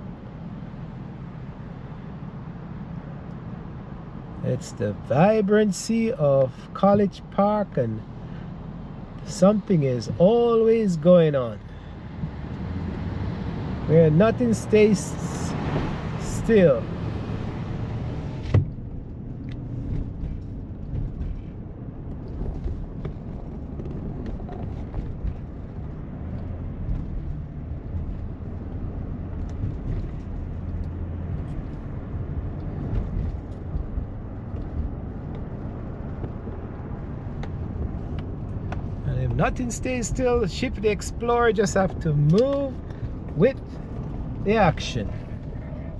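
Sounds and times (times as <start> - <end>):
car rumbling on road: 0.0 - 45.9.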